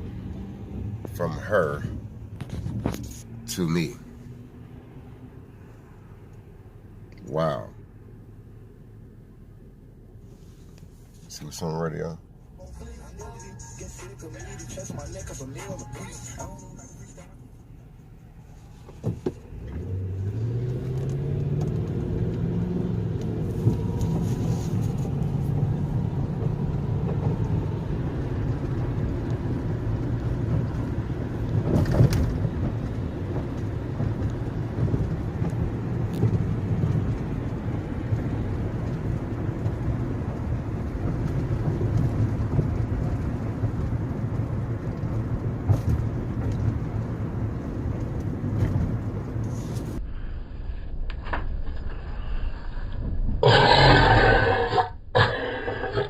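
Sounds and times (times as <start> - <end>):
car engine starting and running: 0.0 - 52.2.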